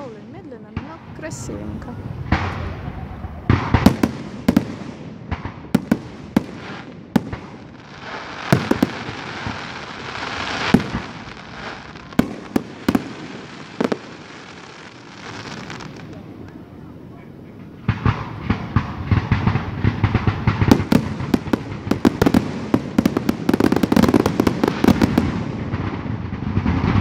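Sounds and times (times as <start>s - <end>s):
fireworks bursting with sharp bangs: 0.0s - 27.0s
fireworks hissing and crackling: 0.0s - 27.0s.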